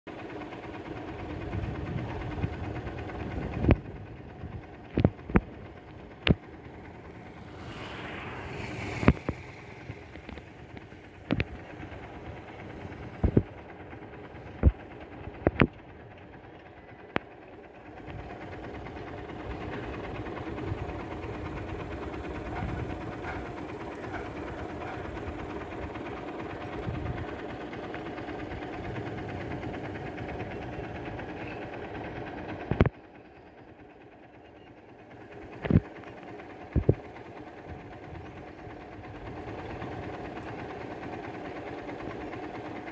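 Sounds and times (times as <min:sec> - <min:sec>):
low mechanical hum: 0:00.1 - 0:42.9.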